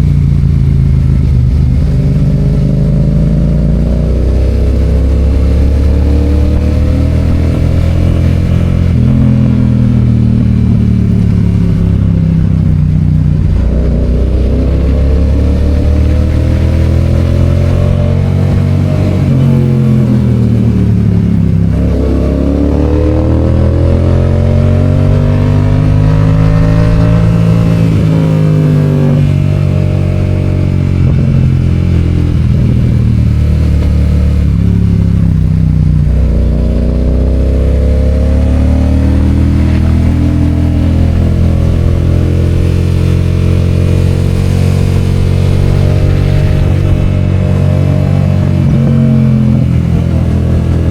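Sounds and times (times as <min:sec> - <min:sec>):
motorcycle engine revving on road: 0:00.0 - 0:50.9.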